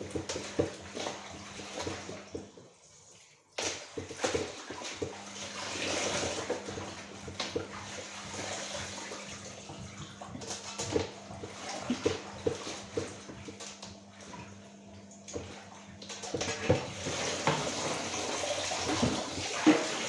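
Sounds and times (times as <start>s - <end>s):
tap water running into sink: 0.0s - 20.0s.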